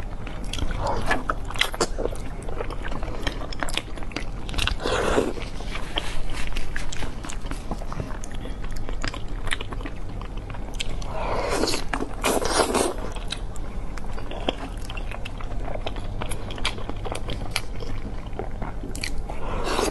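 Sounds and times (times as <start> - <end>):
wet chewing and smacking: 0.0 - 19.9.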